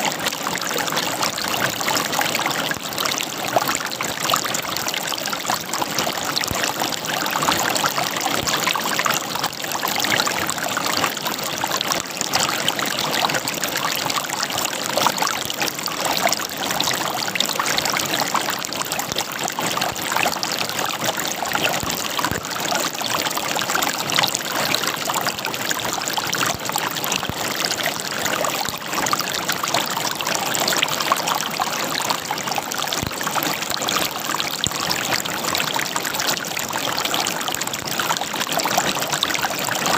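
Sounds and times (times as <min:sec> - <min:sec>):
river water gurgling over rocks: 0:00.0 - 0:39.9.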